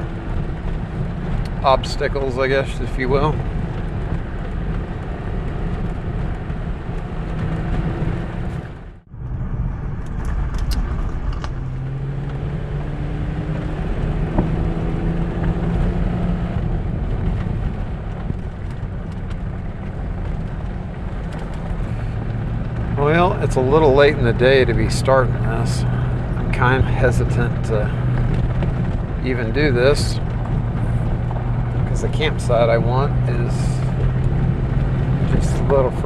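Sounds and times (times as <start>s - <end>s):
off-road vehicle engine: 0.0s - 36.0s
road rumble: 0.0s - 36.0s.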